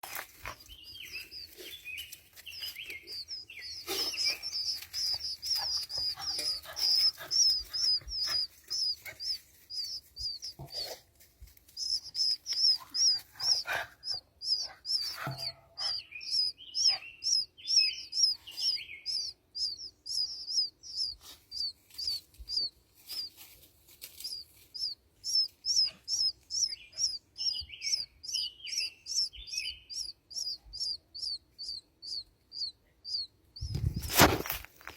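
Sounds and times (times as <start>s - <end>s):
nestling birds chirping: 0.0s - 34.9s
lower rough bird calls: 0.5s - 11.1s, 11.7s - 23.3s, 24.2s - 33.3s.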